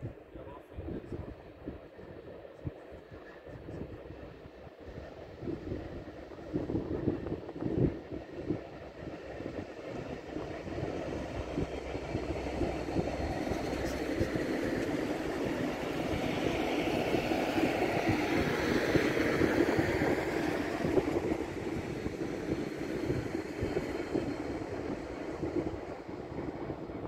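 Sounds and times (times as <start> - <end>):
freight train wheels rumbling on rails: 0.0 - 27.0
train hiss: 4.1 - 27.0.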